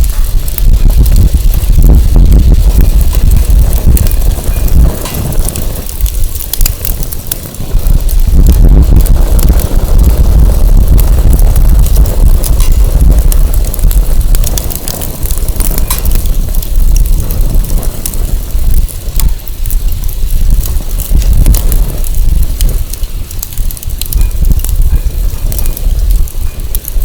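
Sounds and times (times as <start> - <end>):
firewood crackling and popping: 0.0 - 27.0
wind buffeting microphone: 0.0 - 27.0.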